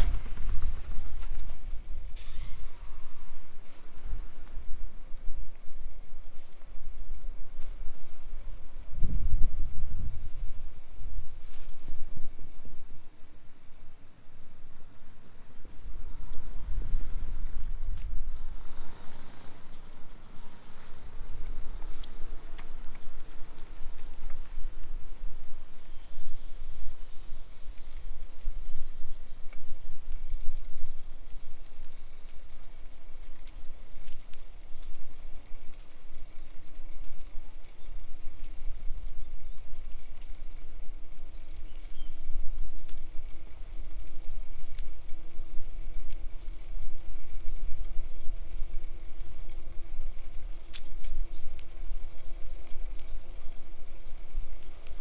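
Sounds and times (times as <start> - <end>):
wind rumbling on microphone: 0.0 - 55.0.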